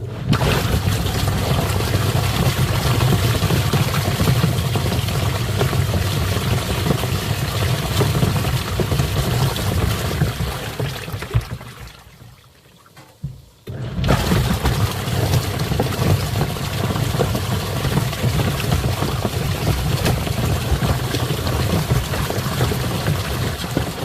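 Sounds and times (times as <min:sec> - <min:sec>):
washing machine motor hum: 0:00.0 - 0:24.0
water churning and sloshing: 0:00.0 - 0:24.0.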